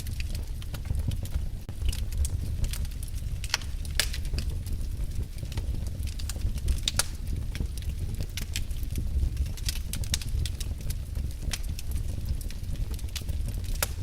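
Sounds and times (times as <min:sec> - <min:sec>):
fire rumbling: 0:00.0 - 0:14.0
wood fire popping and crackling: 0:00.0 - 0:14.0.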